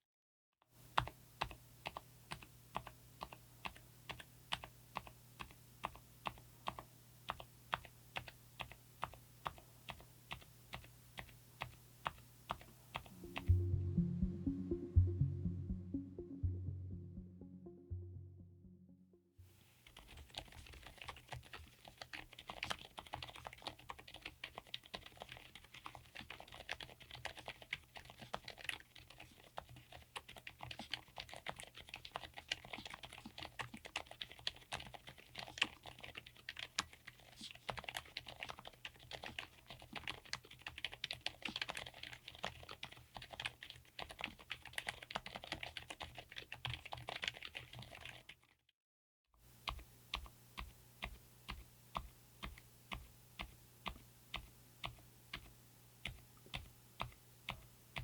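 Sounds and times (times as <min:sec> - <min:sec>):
quiet keyboard typing: 0:00.8 - 0:13.6, 0:19.7 - 0:48.5, 0:49.5 - 0:58.0.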